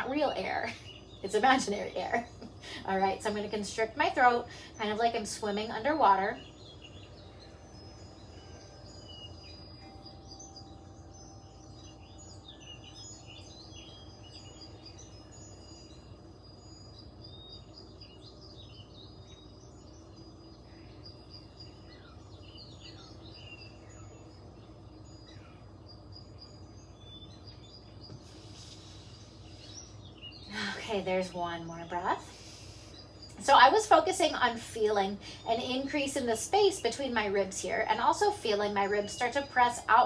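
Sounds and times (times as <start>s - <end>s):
low steady hum: 0.0s - 40.0s
small birds chirping: 0.0s - 40.0s.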